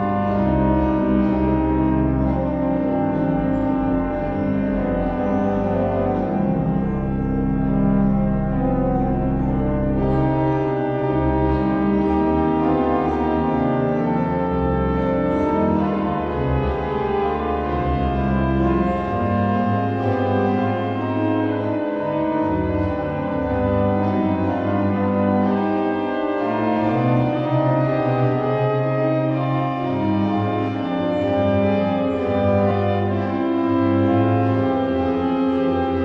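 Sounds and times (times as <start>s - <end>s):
pipe organ playing chords: 0.0s - 36.0s.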